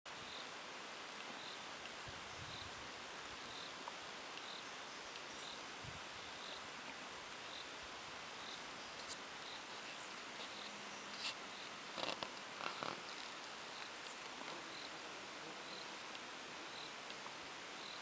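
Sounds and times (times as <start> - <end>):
outdoor hiss: 0.1 - 18.0
insect chirping: 0.2 - 0.6, 1.3 - 18.0.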